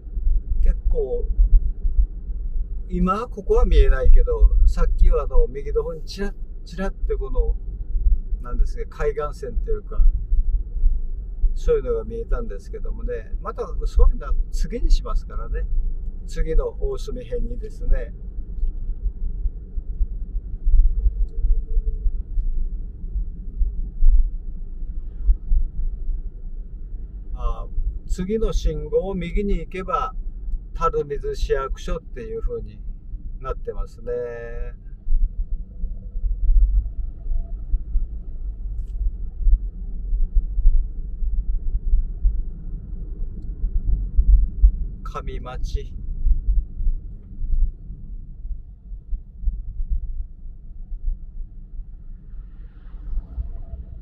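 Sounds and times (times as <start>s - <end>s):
low rumble of car driving: 0.0s - 54.0s.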